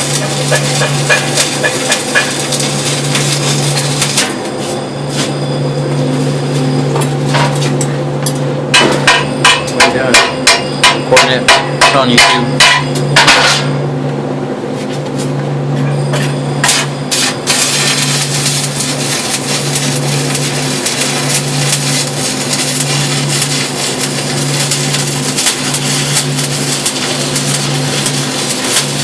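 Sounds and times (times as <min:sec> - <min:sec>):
welding arc crackling: 0:00.0 - 0:13.8, 0:16.1 - 0:29.0
steady low hum: 0:00.0 - 0:29.0.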